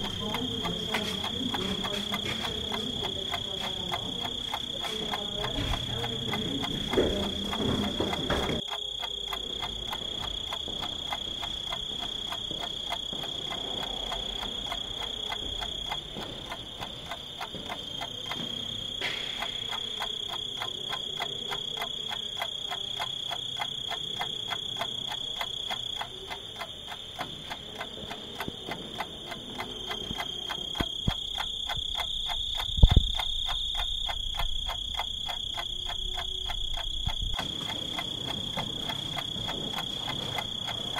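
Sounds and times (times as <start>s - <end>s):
insect chirring: 0.0s - 40.9s.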